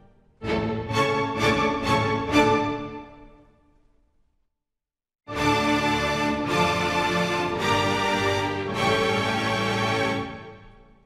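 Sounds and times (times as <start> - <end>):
orchestral strings and brass: 0.0 - 3.5, 5.3 - 11.0.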